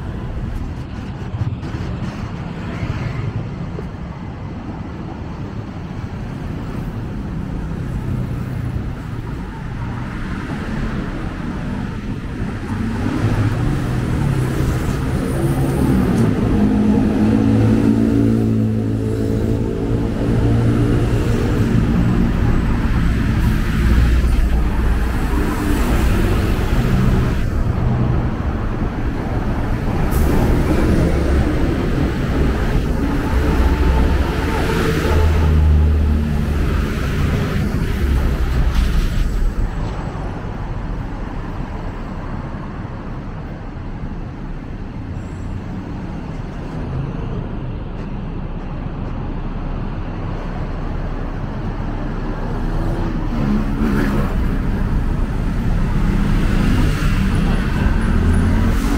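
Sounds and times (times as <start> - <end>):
traffic rumble: 0.0 - 58.9.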